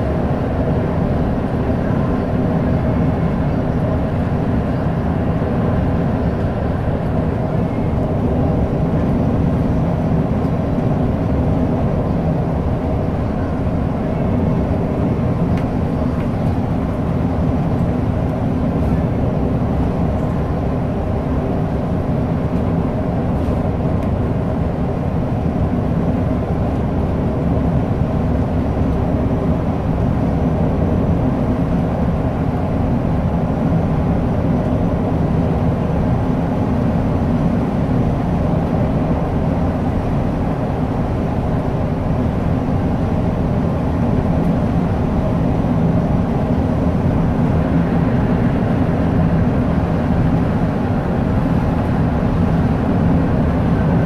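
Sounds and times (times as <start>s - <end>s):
bus diesel engine: 0.0s - 54.0s
road noise inside bus: 0.0s - 54.0s.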